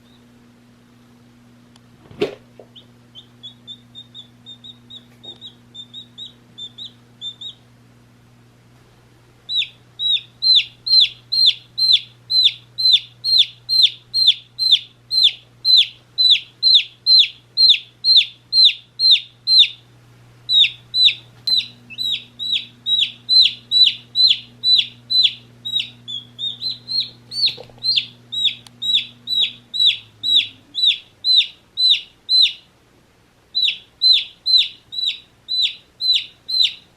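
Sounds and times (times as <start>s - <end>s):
baby chick peeping: 0.0s - 0.3s, 2.6s - 7.7s, 9.4s - 32.8s, 33.5s - 36.9s.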